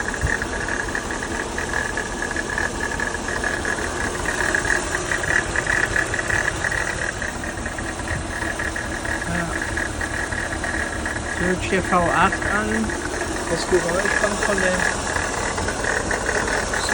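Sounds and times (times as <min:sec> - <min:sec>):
car engine idling: 0:00.0 - 0:16.9
high-pitched whine: 0:00.0 - 0:16.9.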